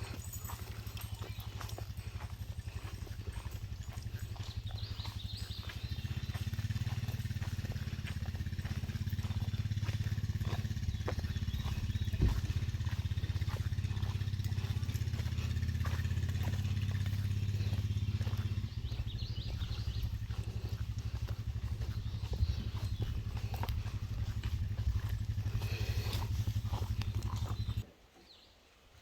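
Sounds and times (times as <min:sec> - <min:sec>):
low engine rumble: 0:00.0 - 0:27.8.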